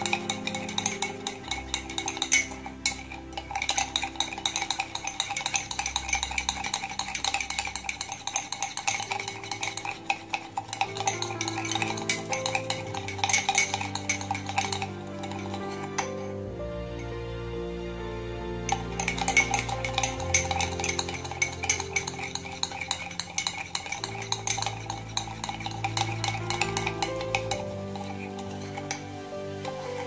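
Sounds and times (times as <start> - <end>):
spoon clinking in ceramic cup: 0.0 - 16.4, 18.7 - 30.0
soft background music: 0.0 - 30.0.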